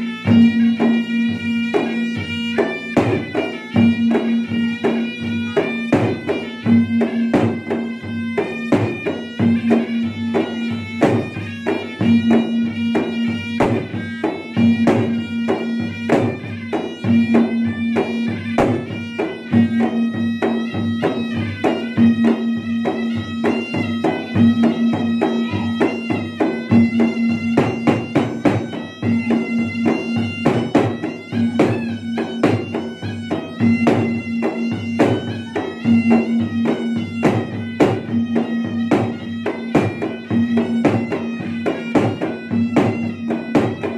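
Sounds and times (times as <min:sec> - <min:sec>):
hand drums playing rapidly: 0:00.0 - 0:43.9
shawm holding long notes: 0:00.0 - 0:43.9.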